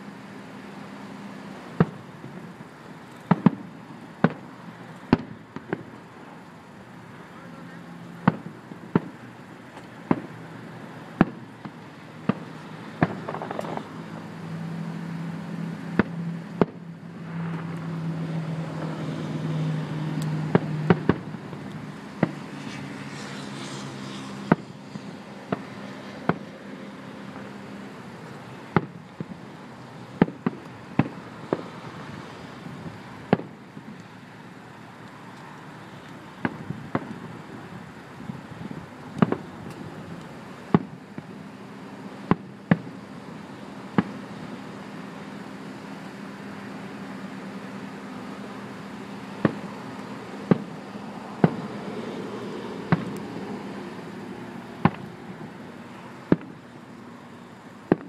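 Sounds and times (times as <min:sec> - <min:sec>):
firework shells bursting: 0:01.6 - 0:19.0, 0:20.1 - 0:43.0, 0:43.8 - 0:45.0, 0:48.3 - 0:56.7, 0:57.8 - 0:58.0.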